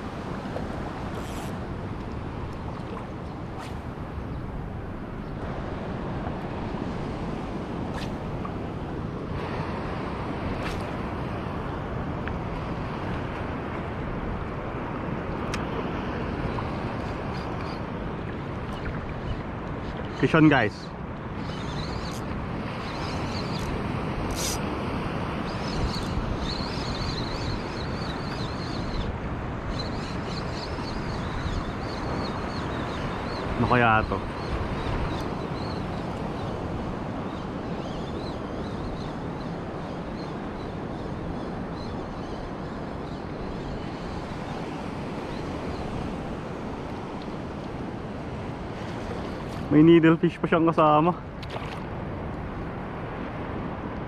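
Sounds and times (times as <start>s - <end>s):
surf washing on shore: 0.0s - 54.0s
wind rushing over microphone: 0.0s - 54.0s.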